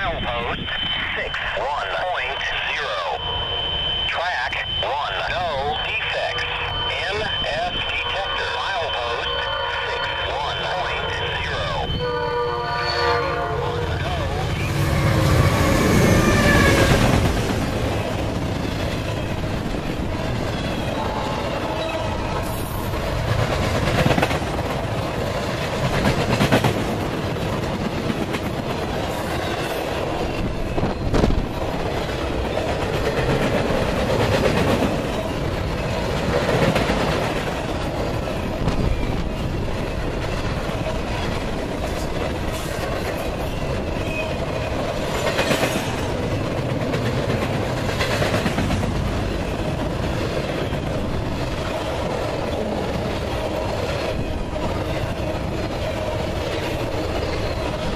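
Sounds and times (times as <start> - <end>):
freight train wheels on rails: 0.0 - 57.9.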